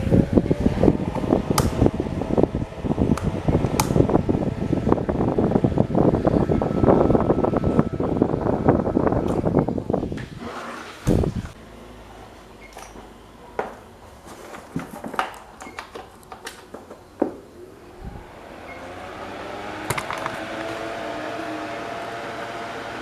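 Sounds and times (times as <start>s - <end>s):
fan motor humming: 0.0s - 14.2s, 17.2s - 23.0s.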